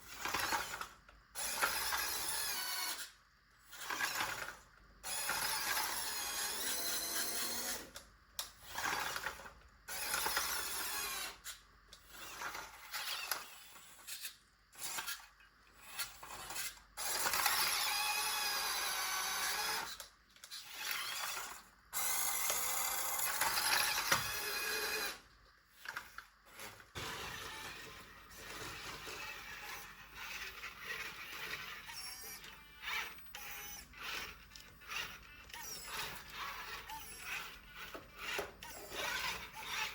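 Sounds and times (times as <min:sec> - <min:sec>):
toy car motor whirring: 0:00.0 - 0:39.9.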